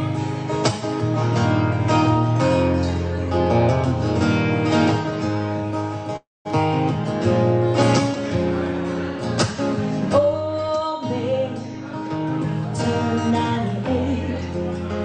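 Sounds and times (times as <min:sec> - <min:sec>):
acoustic guitars strumming: 0:00.0 - 0:15.0.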